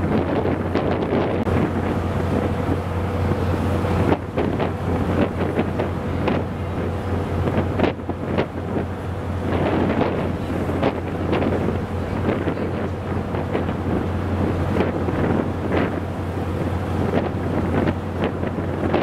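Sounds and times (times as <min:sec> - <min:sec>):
sea rushing: 0:00.0 - 0:19.0
ship engines droning: 0:00.0 - 0:19.0
wind buffeting microphone: 0:00.0 - 0:19.0.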